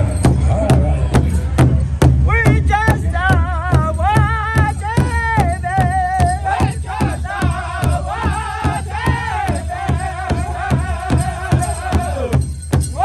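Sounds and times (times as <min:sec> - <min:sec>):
large drum steady beat: 0:00.0 - 0:13.0
men chanting in unison: 0:02.6 - 0:13.0.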